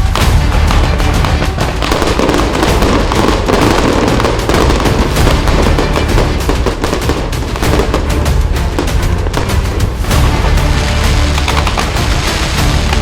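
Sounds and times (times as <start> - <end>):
fireworks crackling bangs: 0.0 - 13.0.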